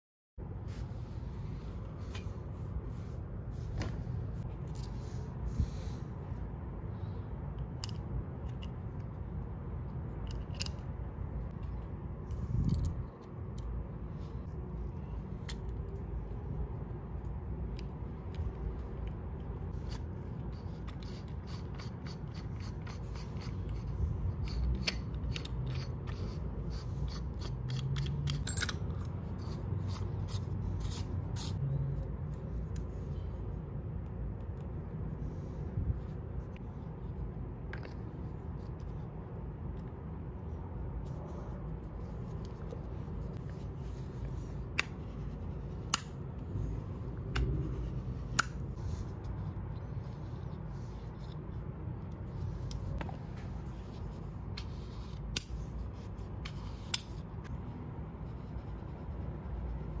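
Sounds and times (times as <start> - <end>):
low background rumble: 0.4 - 60.0
light clicks and scrapes of parts: 0.6 - 6.6, 7.3 - 57.7.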